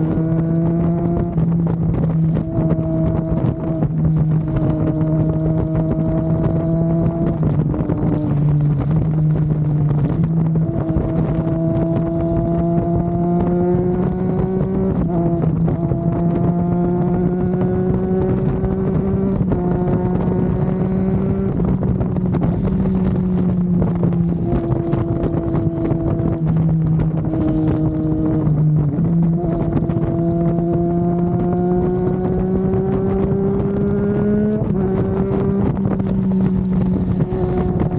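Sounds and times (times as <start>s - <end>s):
motorcycle engine revving: 0.0s - 37.9s
wind rush: 0.0s - 37.9s.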